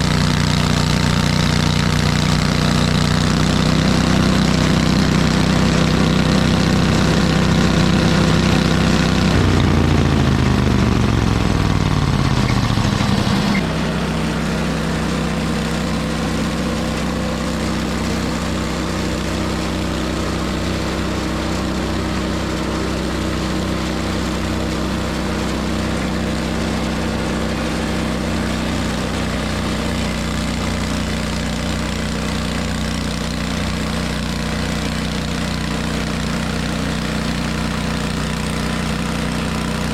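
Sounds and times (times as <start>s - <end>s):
engine winding down: 0.0s - 32.4s
engine idling: 0.0s - 39.9s.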